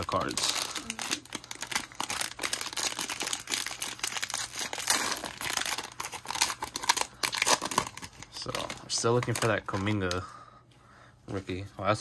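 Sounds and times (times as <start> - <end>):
plastic wrapper crinkling and tearing: 0.0 - 10.2.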